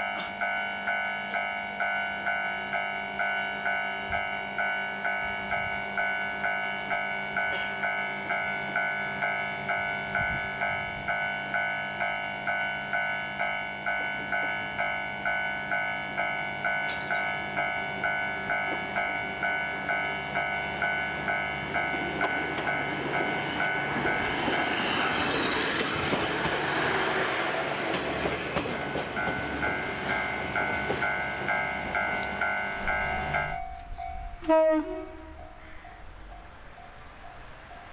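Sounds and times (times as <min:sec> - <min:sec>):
diesel train passing: 0:00.0 - 0:37.9
level-crossing alarm bell: 0:00.0 - 0:37.9.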